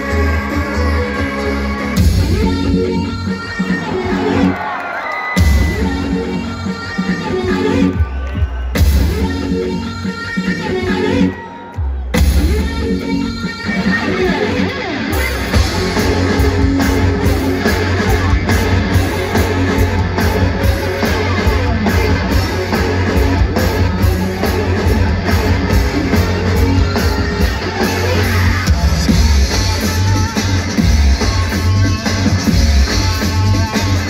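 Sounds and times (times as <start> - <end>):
live electronic rock music: 0.0 - 34.0.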